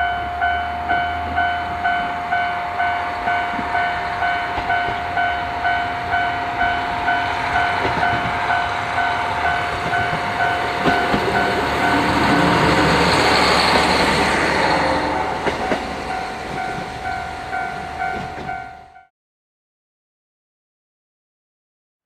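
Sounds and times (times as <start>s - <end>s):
train rumble and wheel clatter: 0.0s - 19.0s
railway crossing bell ringing: 0.0s - 19.1s.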